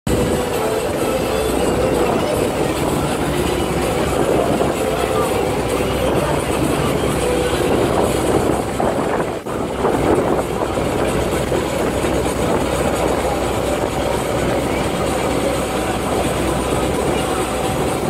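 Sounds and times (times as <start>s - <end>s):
boat engine running: 0.1s - 18.0s
water splashing along hull: 0.1s - 18.0s.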